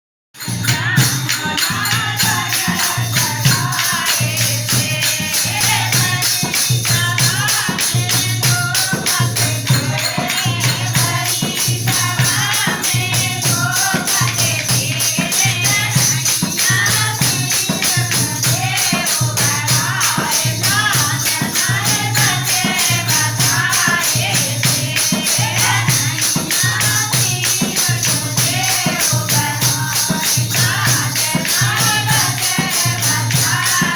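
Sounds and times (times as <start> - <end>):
devotional song singing: 0.4 - 33.9
rhythmic percussion: 0.4 - 33.9.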